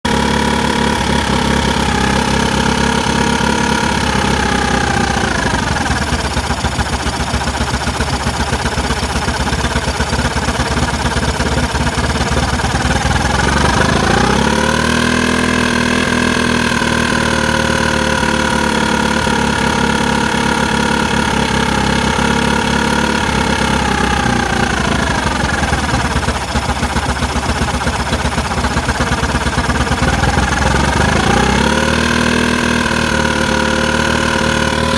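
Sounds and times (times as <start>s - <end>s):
engine idling roughly: 0.0s - 34.9s.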